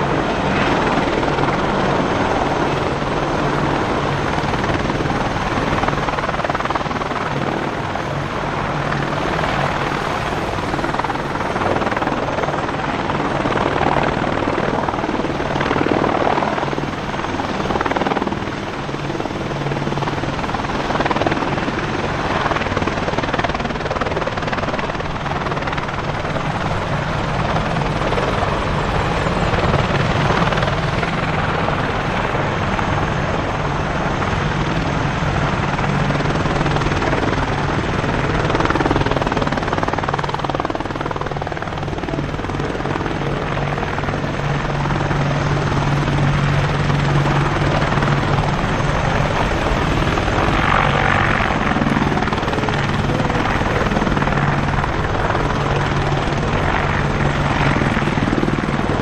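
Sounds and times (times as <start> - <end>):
helicopters running: 0.0 - 59.0.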